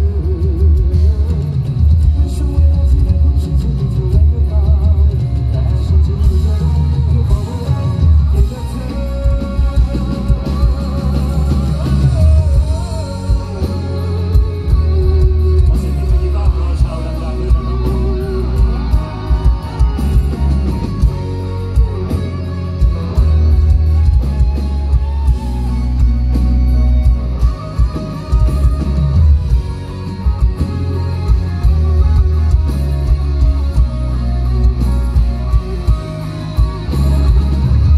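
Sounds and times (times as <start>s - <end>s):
live rock band playing: 0.0s - 37.9s
man singing: 0.0s - 37.9s.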